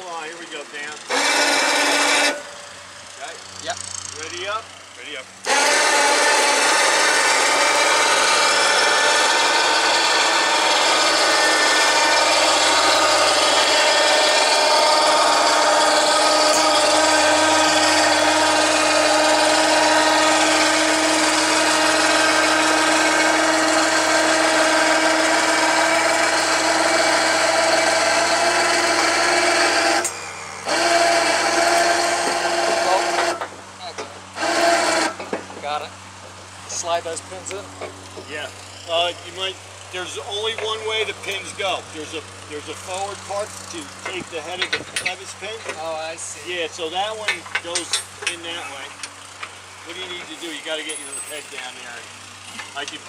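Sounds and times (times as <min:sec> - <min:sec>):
electric motor running: 0:00.0 - 0:35.4, 0:36.0 - 0:53.0.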